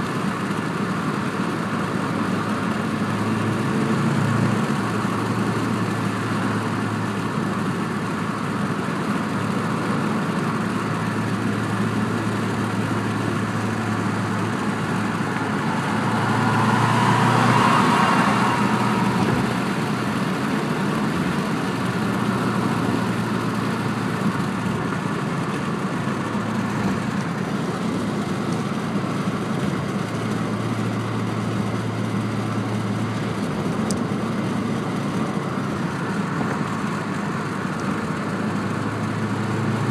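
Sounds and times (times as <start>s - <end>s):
car engine humming: 0.0s - 39.9s.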